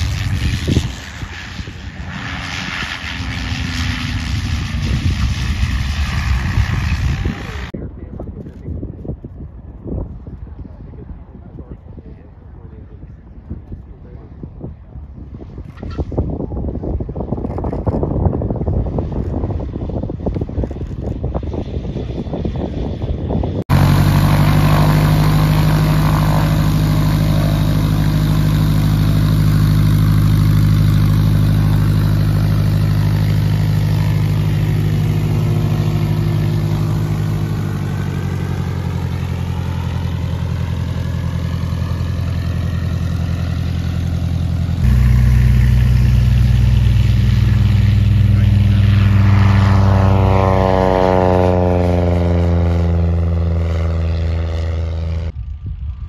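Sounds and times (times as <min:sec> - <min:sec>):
plane passing with phasing tone: 0:00.0 - 0:07.8, 0:18.2 - 0:56.0
propeller aircraft engine: 0:00.0 - 0:56.0.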